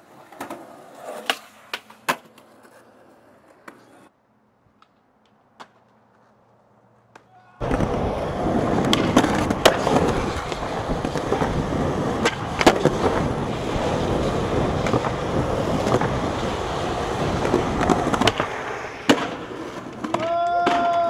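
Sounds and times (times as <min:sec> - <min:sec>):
skateboard clacking on ground: 0:00.0 - 0:04.1, 0:04.7 - 0:21.0
skateboard wheels rolling on concrete: 0:00.0 - 0:21.0.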